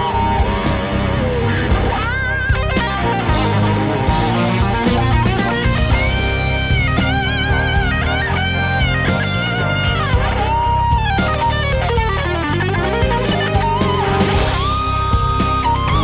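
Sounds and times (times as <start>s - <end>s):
bass and drums: 0.0s - 16.0s
lead electric guitar: 0.0s - 16.0s.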